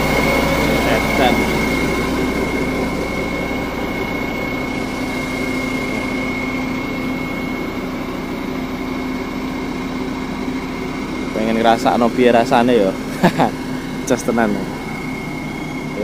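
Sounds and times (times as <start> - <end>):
engine idling: 0.0 - 16.0
high-pitched whine: 0.0 - 16.0.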